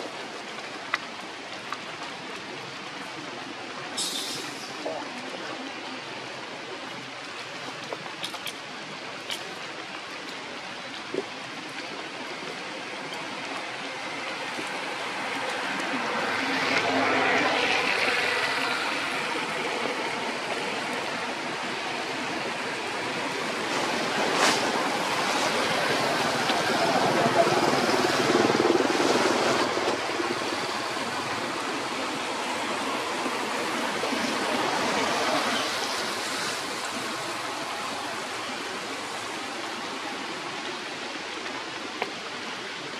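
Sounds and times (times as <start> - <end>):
steady rushing outdoor noise: 0.0 - 42.9.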